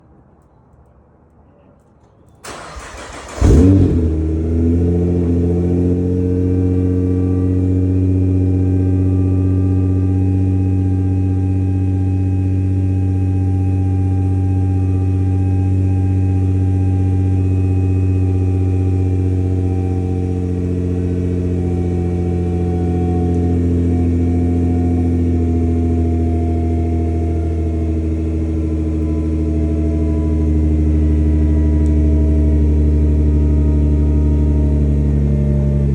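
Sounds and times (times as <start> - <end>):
car engine starting and idling: 2.4 - 35.9.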